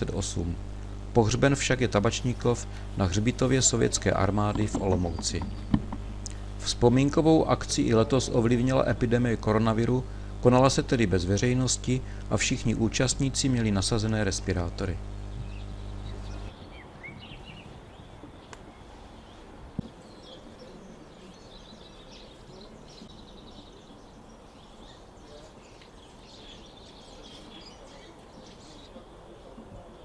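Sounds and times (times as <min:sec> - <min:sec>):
small birds chirping: 0:02.1 - 0:30.0.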